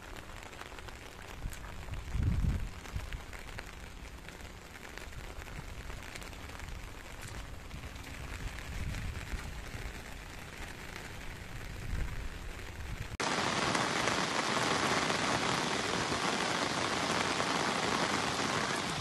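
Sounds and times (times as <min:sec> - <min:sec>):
heavy rain on water: 0:00.0 - 0:19.0.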